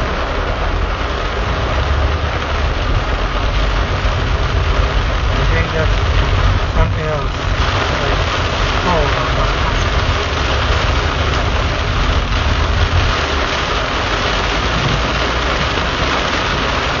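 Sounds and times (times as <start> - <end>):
heavy rain on car roof: 0.0 - 17.0
moving car rumble: 0.0 - 17.0.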